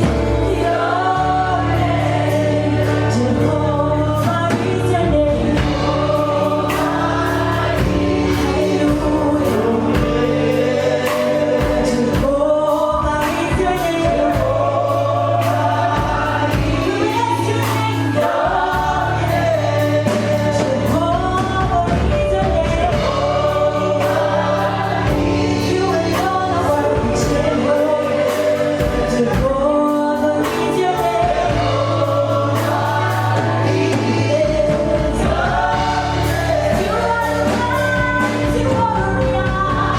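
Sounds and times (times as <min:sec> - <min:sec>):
choir singing gospel music: 0:00.0 - 0:39.9
instrumental accompaniment: 0:00.0 - 0:39.9.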